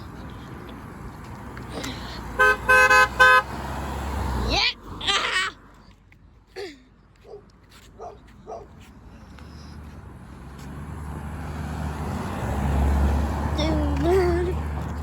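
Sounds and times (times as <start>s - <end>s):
car approaching: 0.0s - 15.0s.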